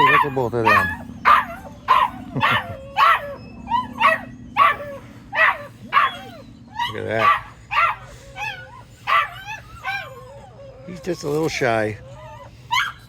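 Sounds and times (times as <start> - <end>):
puppy yipping and barking: 0.0 - 13.0
steady low hum: 0.0 - 13.0.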